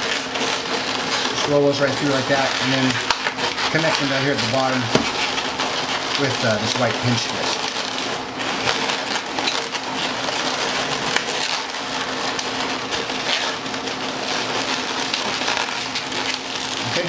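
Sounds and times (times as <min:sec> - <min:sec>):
balloons rubbing and squeaking: 0:00.0 - 0:17.0.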